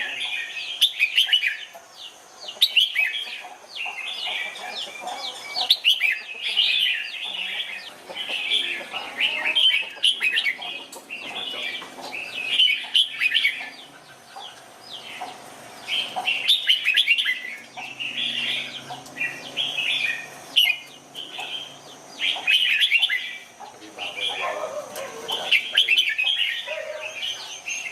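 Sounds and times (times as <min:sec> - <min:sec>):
bird singing warbled phrases: 0:00.0 - 0:27.9.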